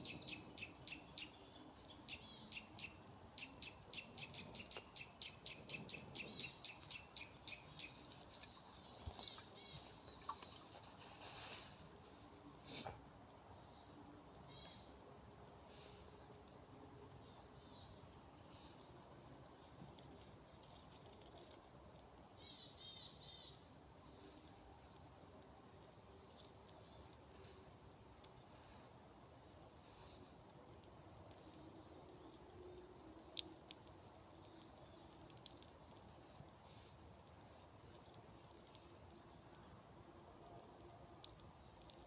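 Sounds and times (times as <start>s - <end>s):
bird chirping: 0.0s - 11.8s, 12.6s - 15.0s, 17.0s - 42.0s
faint forest ambience: 0.0s - 42.0s.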